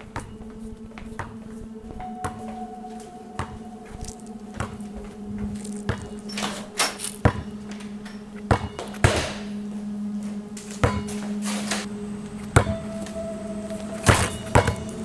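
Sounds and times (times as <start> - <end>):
footsteps: 0.0 - 15.0
steady low hum: 0.0 - 15.0.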